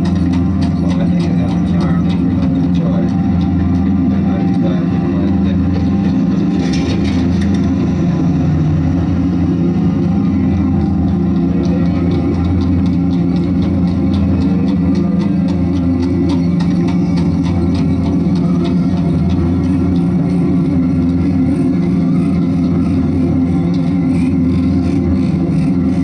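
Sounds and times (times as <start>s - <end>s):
mechanical music machine drone: 0.0s - 26.0s.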